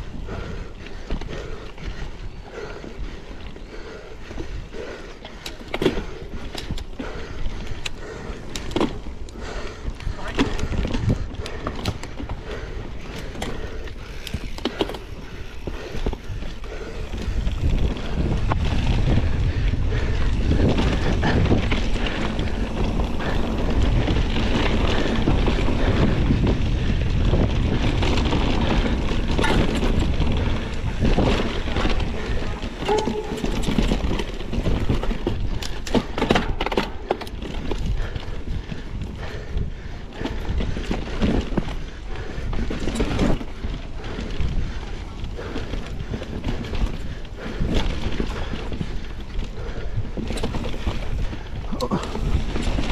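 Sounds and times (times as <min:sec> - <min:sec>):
bike knocking and rattling: 0:00.0 - 0:52.9
bike tyres rolling over loose dirt: 0:00.0 - 0:52.9
wind buffeting microphone: 0:00.0 - 0:52.9.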